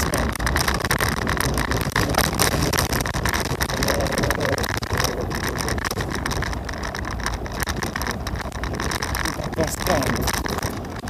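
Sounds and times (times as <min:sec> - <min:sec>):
scooter motor and road noise: 0:00.0 - 0:11.0
wind rush on microphone: 0:00.0 - 0:11.0.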